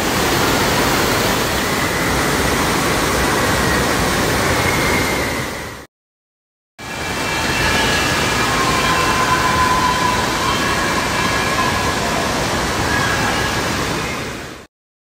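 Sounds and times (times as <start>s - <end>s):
rushing churning water: 0.0s - 5.9s, 6.8s - 14.7s.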